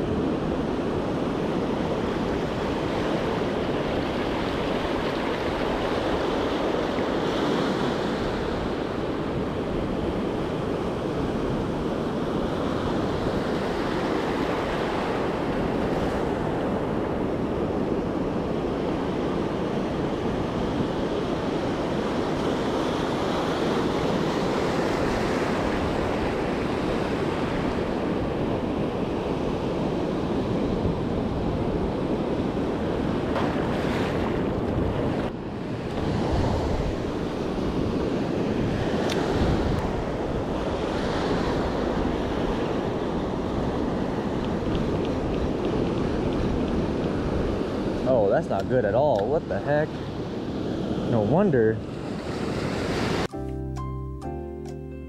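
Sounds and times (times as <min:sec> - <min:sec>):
ocean surf breaking: 0:00.0 - 0:53.3
wind buffeting microphone: 0:00.0 - 0:53.3.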